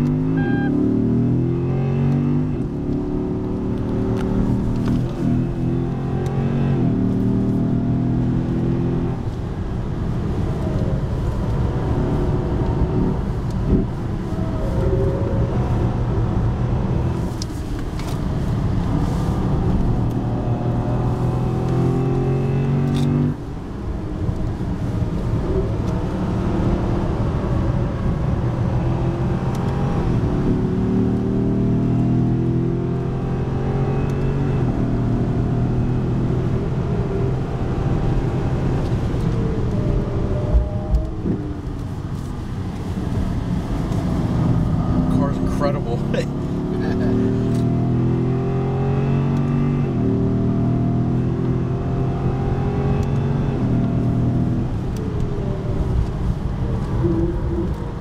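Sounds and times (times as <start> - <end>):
car engine revving: 0.0 - 23.4, 24.2 - 58.0.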